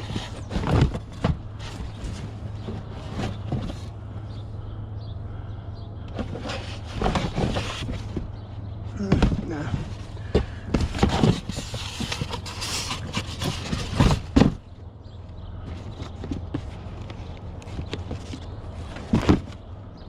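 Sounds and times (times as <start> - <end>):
knocks and clunks of items: 0.0 - 4.0, 6.1 - 14.8, 15.6 - 19.7
rustling junk: 0.0 - 4.4, 6.1 - 14.8, 15.5 - 19.8
steady low hum: 0.0 - 20.0.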